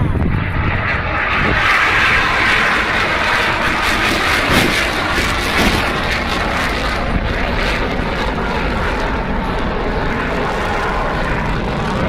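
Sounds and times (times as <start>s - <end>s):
aircraft engine in flight: 0.0s - 12.0s.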